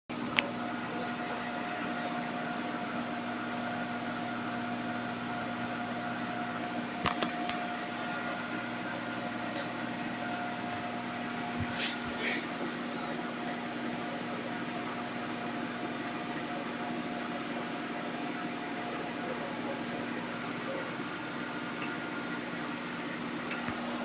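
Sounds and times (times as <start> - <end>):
room machinery hum and hiss: 0.1 - 24.0.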